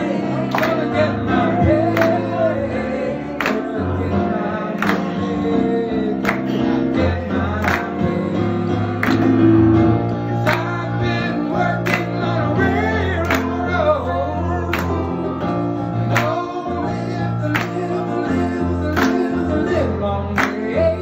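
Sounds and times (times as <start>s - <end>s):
man singing: 0.0s - 9.0s, 10.2s - 21.0s
keyboard accompaniment: 0.0s - 21.0s
voices singing in harmony: 0.0s - 21.0s.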